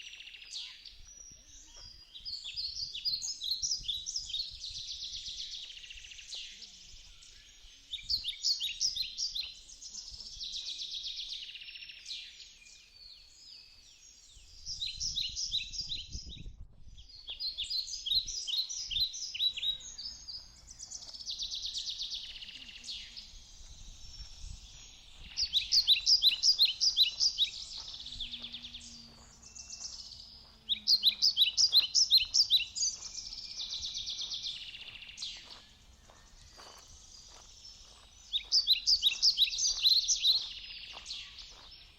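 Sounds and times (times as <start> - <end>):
bird singing trilled phrases: 0.0 - 41.9.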